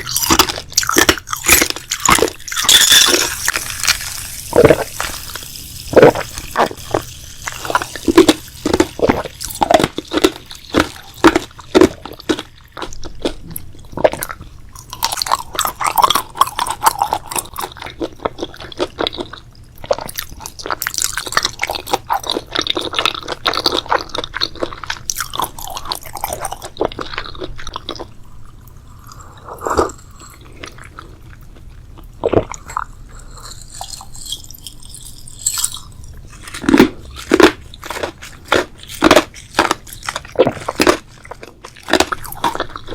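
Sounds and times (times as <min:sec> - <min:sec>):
wet squishy mouth sounds: 0:00.0 - 0:22.9, 0:23.8 - 0:42.9
crisp bites and crunchy chewing: 0:00.0 - 0:28.1, 0:29.8 - 0:42.9.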